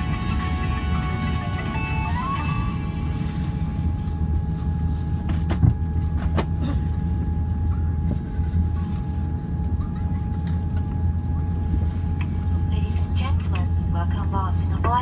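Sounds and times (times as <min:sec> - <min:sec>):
aircraft cabin rumble: 0:00.0 - 0:15.0
steady whine: 0:00.0 - 0:15.0.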